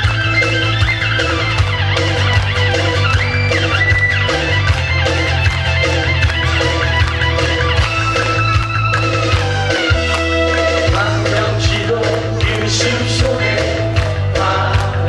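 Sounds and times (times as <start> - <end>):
bass line: 0.0 - 15.0.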